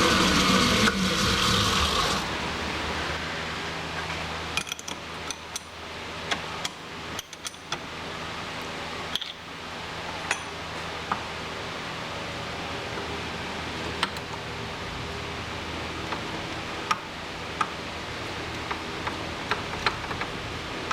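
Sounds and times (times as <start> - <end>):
low machine-shop hum: 0.0 - 20.9.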